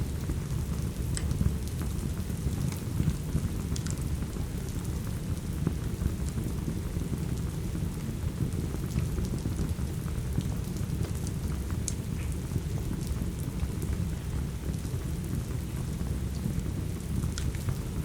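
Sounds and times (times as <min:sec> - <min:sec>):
steady rain: 0:00.0 - 0:18.0
wood fire crackling: 0:00.6 - 0:18.0.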